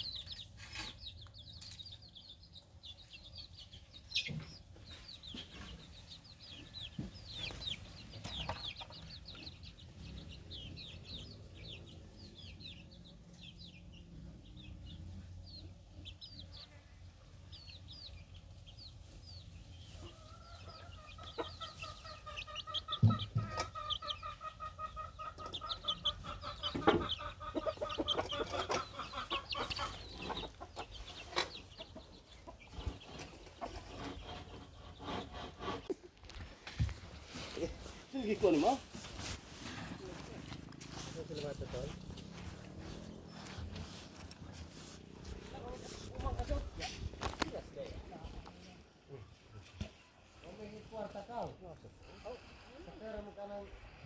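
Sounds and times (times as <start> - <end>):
chicks peeping: 0.0 - 53.9
chickens clucking: 0.0 - 54.0.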